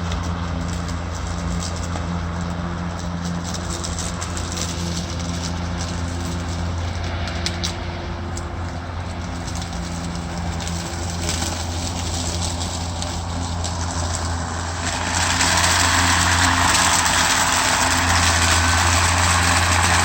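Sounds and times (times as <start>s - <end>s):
blade cutting grass hiss: 0.0s - 20.0s
lawn mower motor hum: 0.0s - 20.0s.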